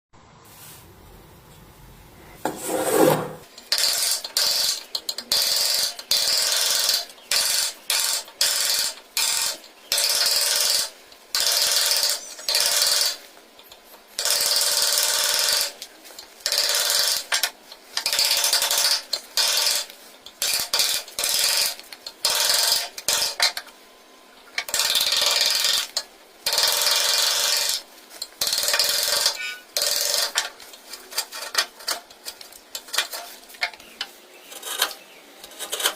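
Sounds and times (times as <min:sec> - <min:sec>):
tool scraping wood: 0:02.4 - 0:23.6, 0:24.7 - 0:35.9.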